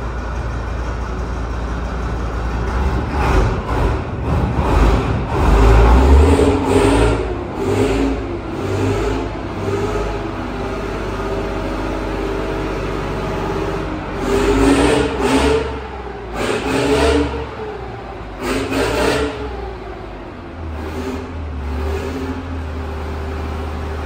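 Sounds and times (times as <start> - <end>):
petrol engine revving: 0.0 - 24.0.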